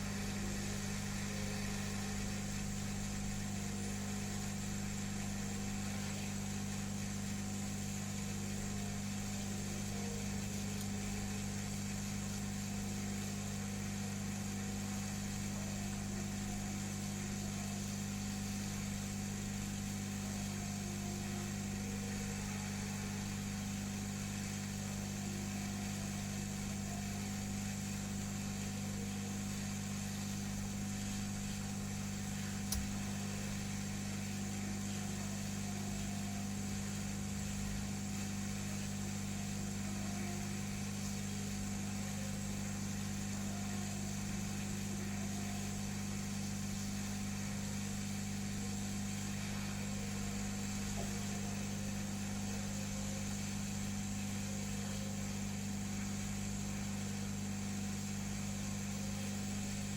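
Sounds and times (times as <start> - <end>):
hot-air blower humming and hissing: 0.0 - 59.9.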